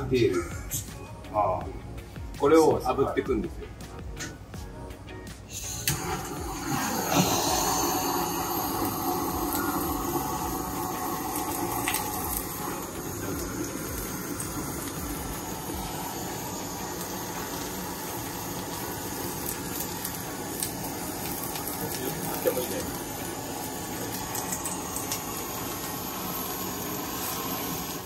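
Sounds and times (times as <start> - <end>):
blowtorch hissing: 5.4 - 28.0.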